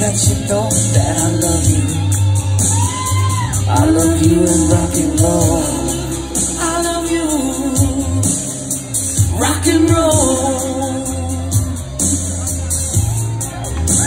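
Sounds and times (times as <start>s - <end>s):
person singing: 0.0s - 12.9s
heavy bass line: 0.0s - 14.0s
loud amplified music: 0.0s - 14.0s.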